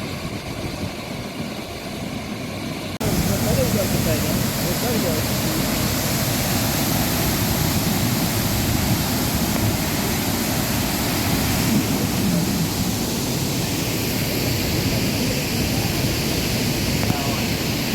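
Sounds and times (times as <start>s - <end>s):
waterfall rushing: 1.5s - 17.9s.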